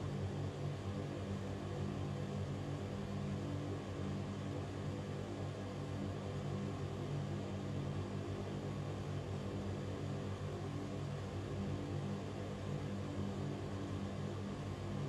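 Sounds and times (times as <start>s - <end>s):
ventilation fan running: 0.0s - 15.0s.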